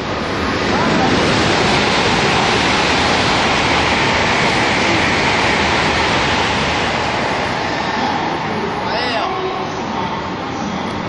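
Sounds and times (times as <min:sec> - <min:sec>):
train passing at high speed: 0:00.0 - 0:11.0.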